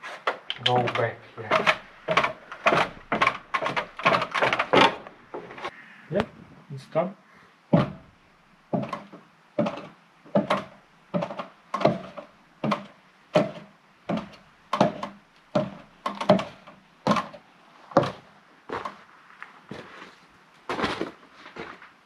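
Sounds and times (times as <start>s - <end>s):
footsteps on wooden staircase: 0.7s - 6.3s, 7.7s - 8.1s, 8.7s - 19.0s, 19.7s - 22.0s.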